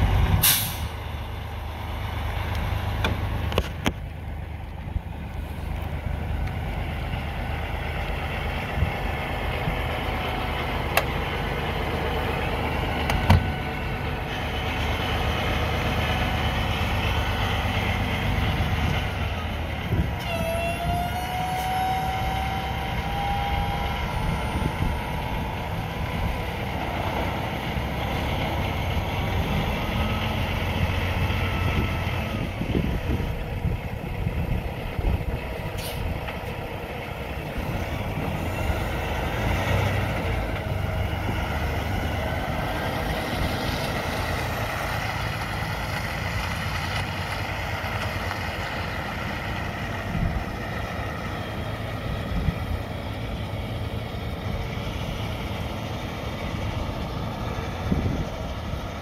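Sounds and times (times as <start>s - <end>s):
diesel truck engine driving away: 0.0s - 59.0s.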